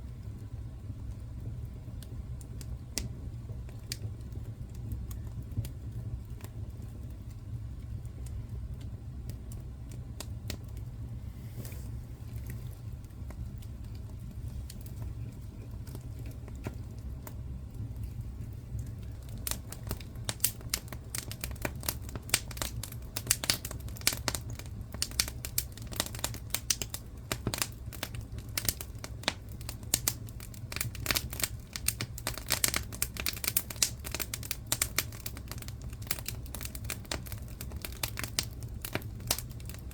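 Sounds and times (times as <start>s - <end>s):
steady low rumble: 0.0s - 33.1s
wood fire crackling: 0.0s - 39.9s.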